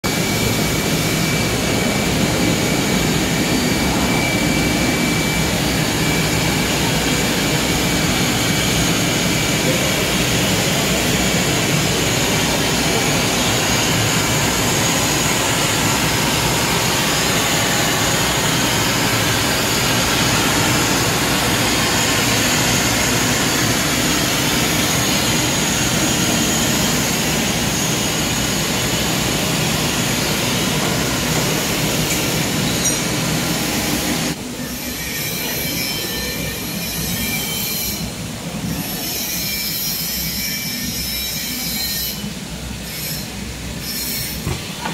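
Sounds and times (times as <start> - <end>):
machinery roar of motors and fans: 0.0 - 44.9.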